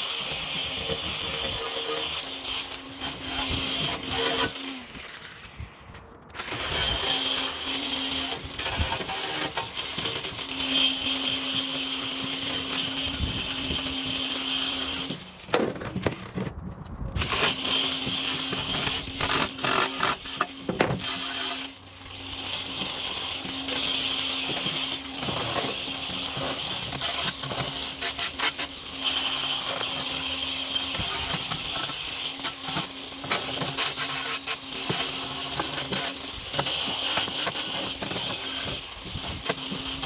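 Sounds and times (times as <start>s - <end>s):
power tool motor whine: 0.0s - 15.5s, 17.2s - 40.0s.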